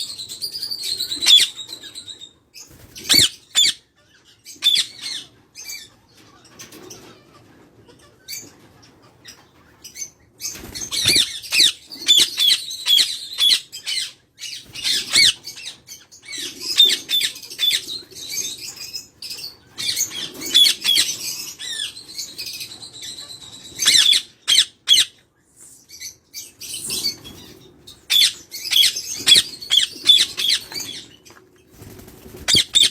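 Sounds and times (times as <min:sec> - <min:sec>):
parrots chirping and squawking: 0:00.0 - 0:25.2, 0:25.8 - 0:31.4, 0:32.0 - 0:32.9.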